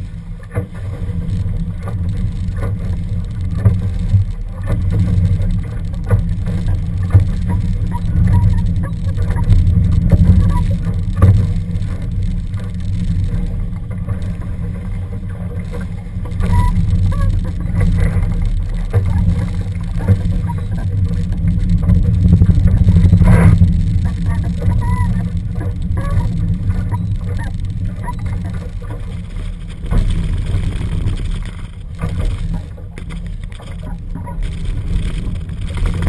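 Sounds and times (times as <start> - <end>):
wind and water rushing: 0.0 - 36.0.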